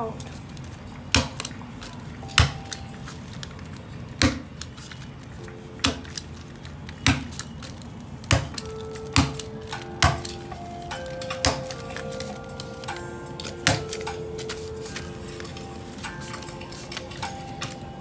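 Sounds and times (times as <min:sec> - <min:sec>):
background music with held notes: 0:01.9 - 0:03.7, 0:05.3 - 0:18.0.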